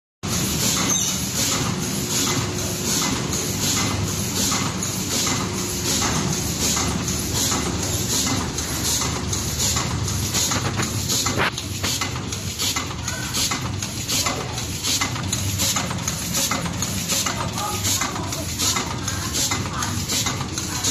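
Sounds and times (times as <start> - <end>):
machine rhythmic clatter and hiss: 0.2 - 20.9.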